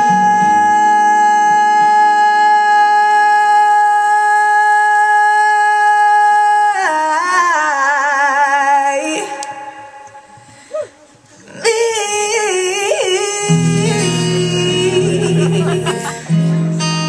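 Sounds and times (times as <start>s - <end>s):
acoustic guitar strumming: 0.0s - 7.3s, 8.8s - 17.0s
woman singing into microphone: 0.0s - 17.0s.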